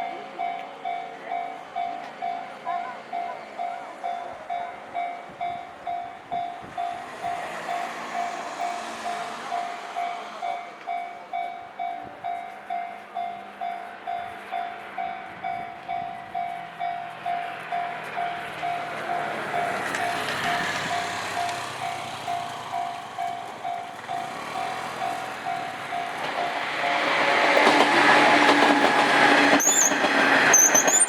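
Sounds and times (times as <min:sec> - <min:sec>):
level-crossing alarm ringing: 0:00.0 - 0:27.2
electric train passing: 0:00.0 - 0:31.0.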